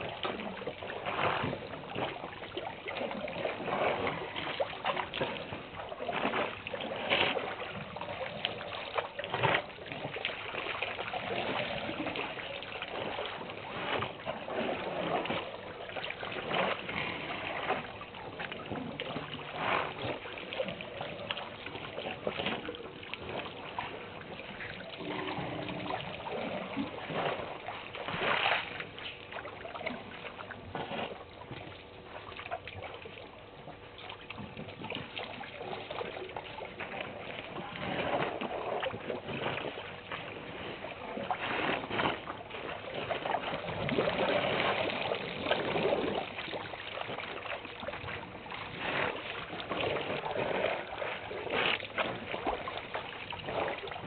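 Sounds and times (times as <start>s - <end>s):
elephants splashing water: 0.0s - 54.0s.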